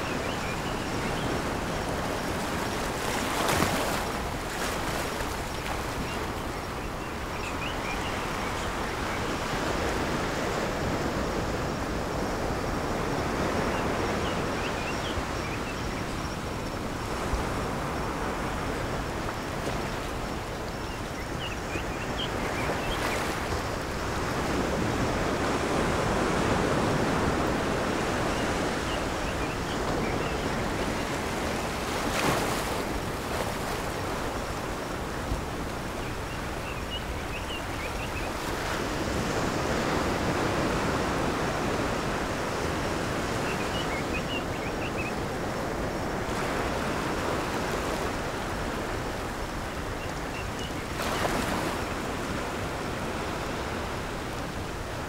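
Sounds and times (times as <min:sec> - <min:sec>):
ocean surf waves breaking: 0:00.0 - 0:20.8, 0:22.1 - 0:55.0.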